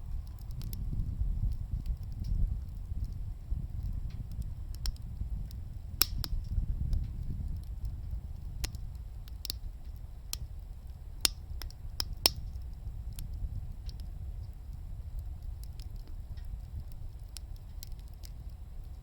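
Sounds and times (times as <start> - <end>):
low stove rumble: 0.0 - 19.0
wood crackling in a stove: 0.0 - 19.0.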